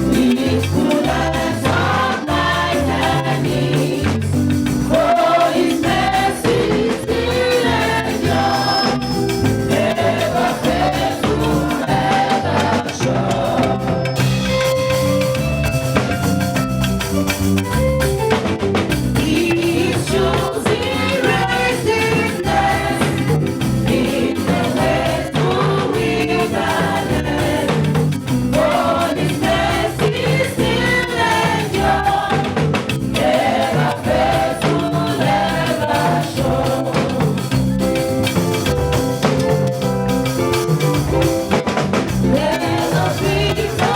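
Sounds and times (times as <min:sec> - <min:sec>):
choir singing a hymn: 0:00.0 - 0:14.5, 0:19.2 - 0:38.6, 0:42.2 - 0:43.9
drums: 0:00.0 - 0:43.9
steady bass: 0:00.0 - 0:43.9.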